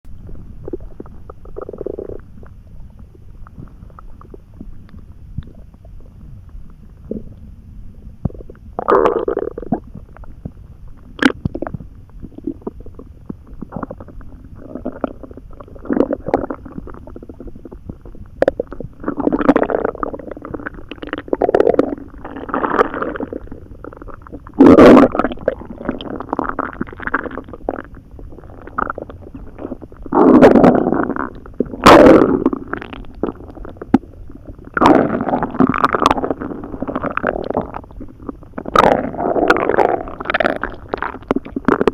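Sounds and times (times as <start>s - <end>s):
stomach gurgling: 0.1s - 41.9s.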